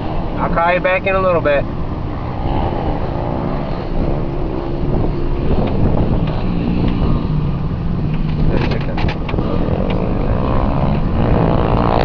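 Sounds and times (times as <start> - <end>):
vehicle engine and road rumble: 0.0 - 12.0
wind buffeting microphone: 0.0 - 12.0.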